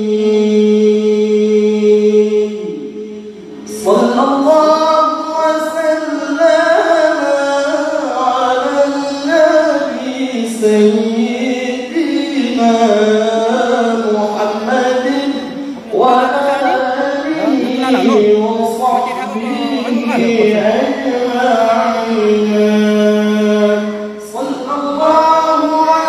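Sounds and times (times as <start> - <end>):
man reciting melodically into microphone: 0.0 - 26.0.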